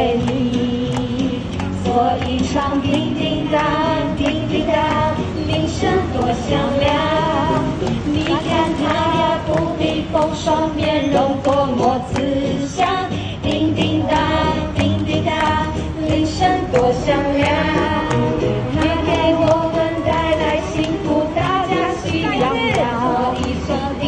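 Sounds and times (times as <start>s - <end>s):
backing music from a speaker: 0.0s - 24.0s
women and children singing: 0.0s - 24.0s.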